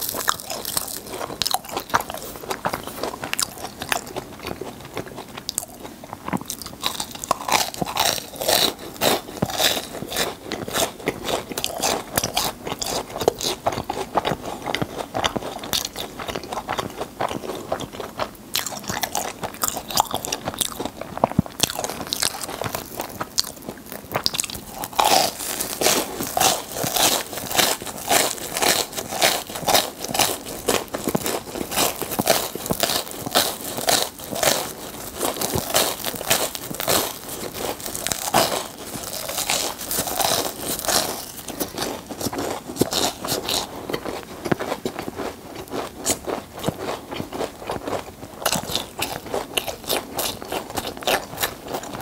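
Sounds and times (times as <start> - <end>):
churros crunching: 0.0 - 52.0.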